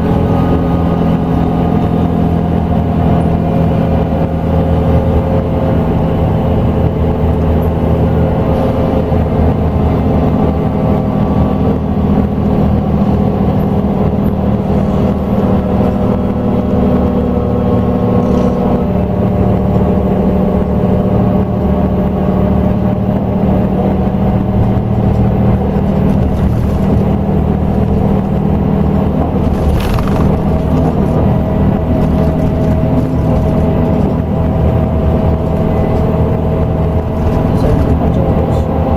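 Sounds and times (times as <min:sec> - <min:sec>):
bus engine running: 0:00.0 - 0:38.9.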